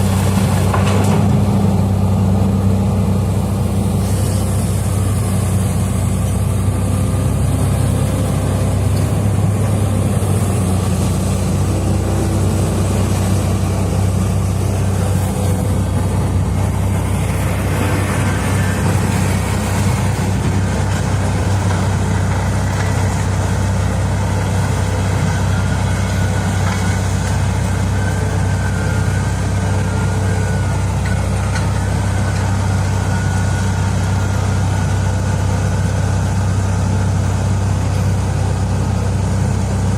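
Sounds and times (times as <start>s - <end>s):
higher rough engine note: 0.0s - 34.1s
heavy diesel engine droning: 0.0s - 39.9s.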